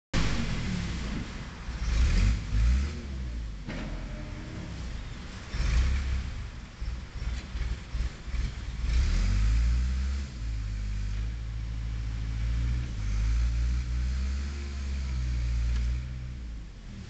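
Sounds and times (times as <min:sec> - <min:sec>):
backhoe engine revving: 0:01.8 - 0:06.5, 0:07.2 - 0:17.0.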